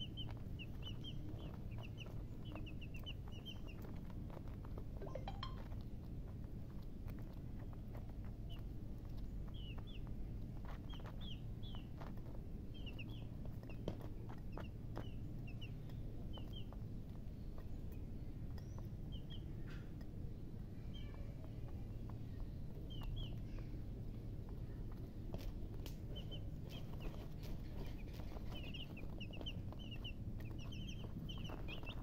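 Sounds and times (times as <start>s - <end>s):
baby chicks peeping: 0.0s - 32.0s
steady low hum: 0.0s - 32.0s.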